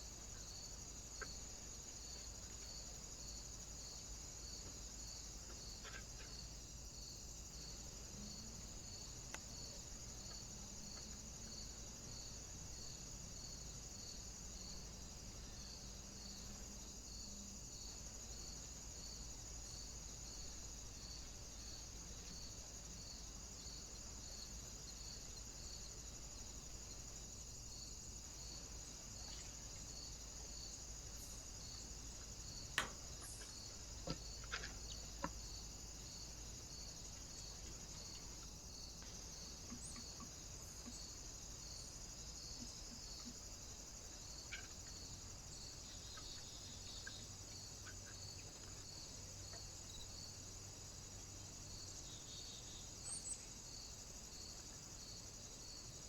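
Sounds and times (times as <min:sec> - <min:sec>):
faint high-pitched electronic hiss: 0:00.0 - 0:56.0.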